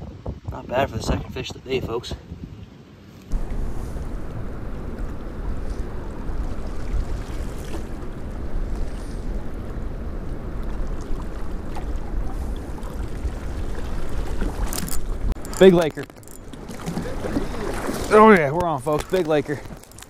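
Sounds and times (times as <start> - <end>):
wind buffeting microphone: 0.0 - 20.0
water washing against pier: 3.3 - 20.0.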